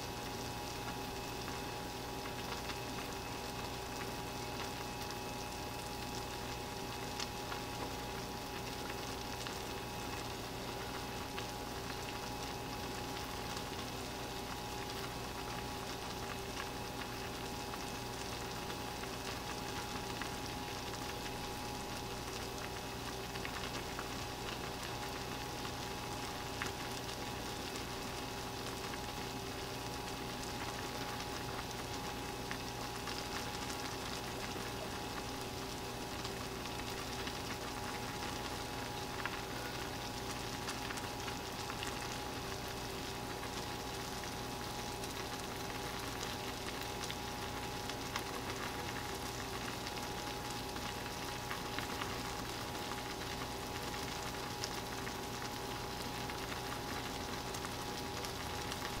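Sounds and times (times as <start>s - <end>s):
faint steady hum: 0.0s - 59.0s
water boiling with bubbling hiss: 0.0s - 59.0s.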